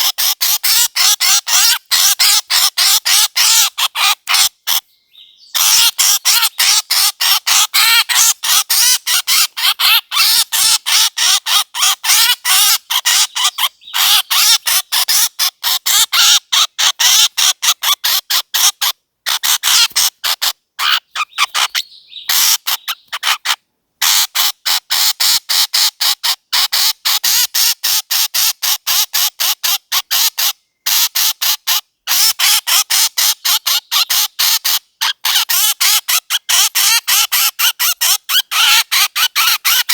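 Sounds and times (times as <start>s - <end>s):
bird sharp high calls: 0.0s - 28.2s, 32.1s - 39.9s.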